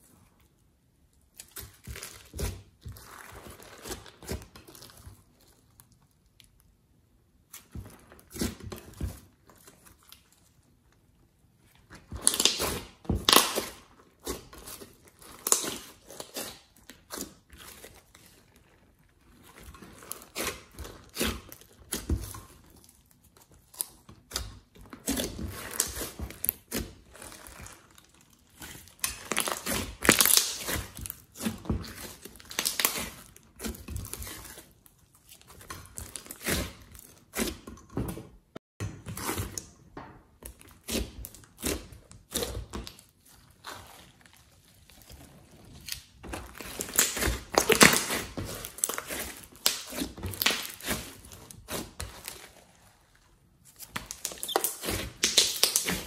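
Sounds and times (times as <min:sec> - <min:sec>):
hands kneading sticky slime: 0:00.0 - 0:56.0.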